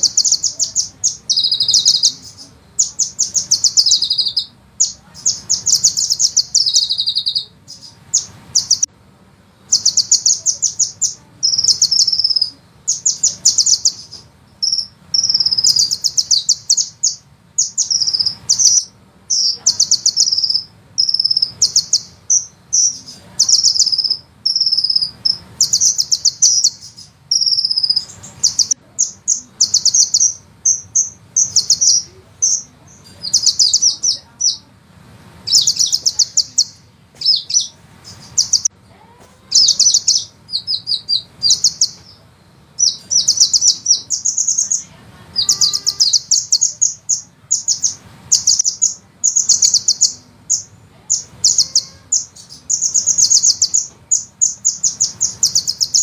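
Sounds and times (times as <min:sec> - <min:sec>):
bird trilling song: 0:00.0 - 0:08.9, 0:09.6 - 0:34.7, 0:35.4 - 0:56.0
faint low hum: 0:00.0 - 0:56.0.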